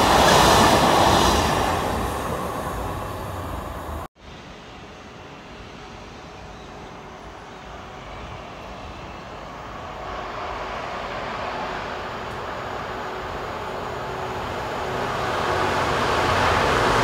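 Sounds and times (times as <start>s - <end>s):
distant train approaching: 0.0s - 17.0s.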